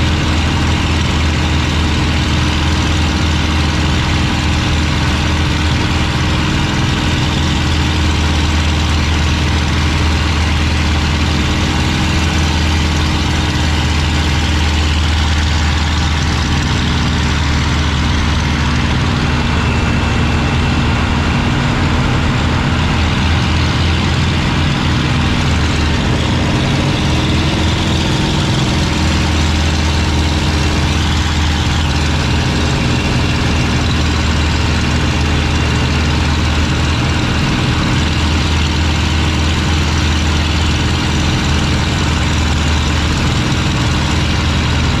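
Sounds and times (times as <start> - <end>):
aircraft engine drone: 0.0 - 45.0.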